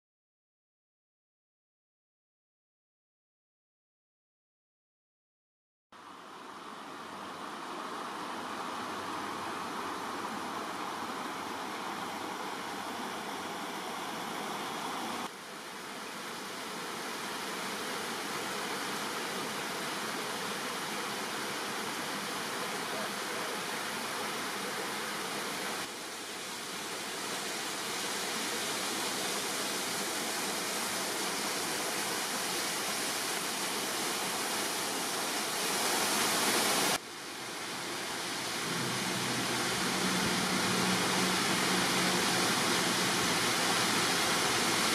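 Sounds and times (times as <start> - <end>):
waterfall rushing: 6.0 - 15.3, 16.0 - 44.9.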